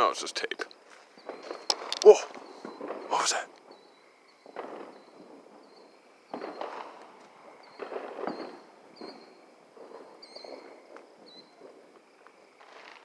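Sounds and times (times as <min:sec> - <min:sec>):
distant fireworks crackling: 0:00.0 - 0:13.0.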